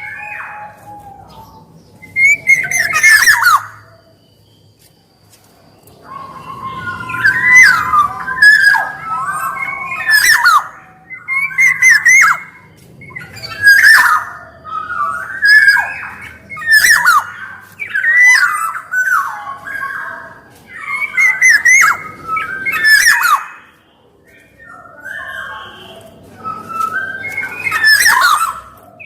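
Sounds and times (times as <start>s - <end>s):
oriole whistles and squawks: 0.0s - 4.2s, 5.9s - 29.0s.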